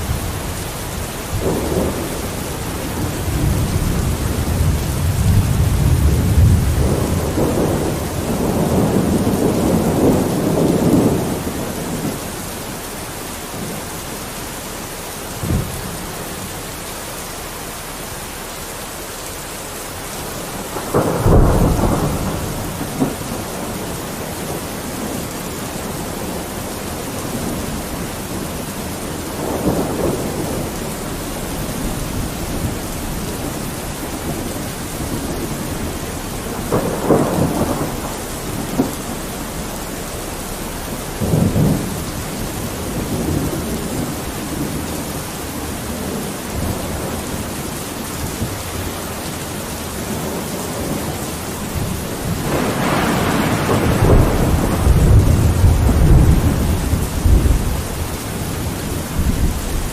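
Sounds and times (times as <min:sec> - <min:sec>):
thunder rolling: 0:00.0 - 0:12.9, 0:20.2 - 0:59.9
rain on a window: 0:00.0 - 0:59.9.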